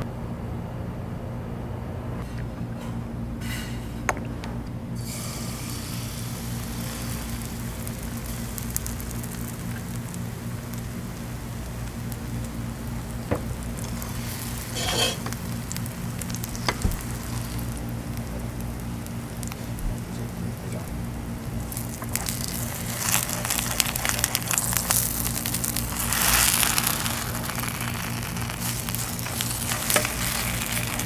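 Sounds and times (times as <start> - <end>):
chicken sizzling in a pan: 5.0 - 31.0.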